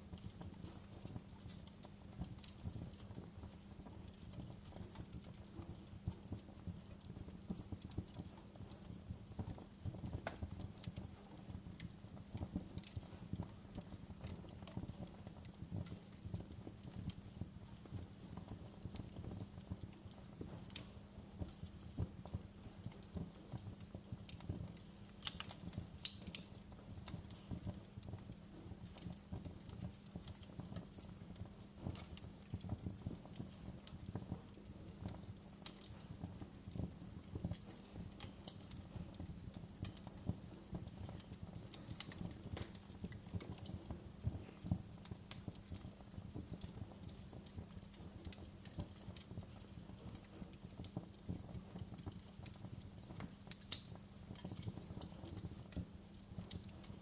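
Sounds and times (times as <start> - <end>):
fire pops and snaps: 0.0 - 57.0
wood fire crackling: 0.0 - 57.0.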